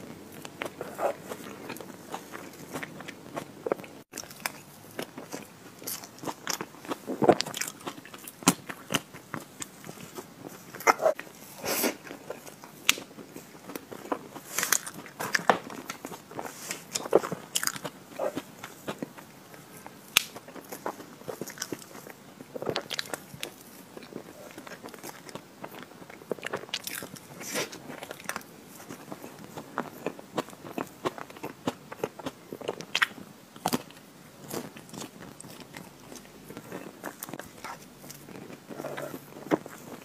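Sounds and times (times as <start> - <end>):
biting and chewing: 0.0 - 40.0.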